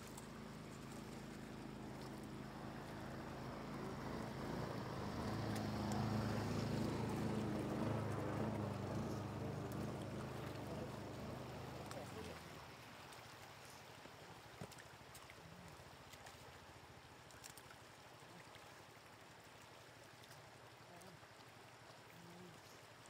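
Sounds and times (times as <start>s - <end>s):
floodwater rushing over road: 0.0s - 23.0s
low engine-like hum: 0.0s - 23.0s.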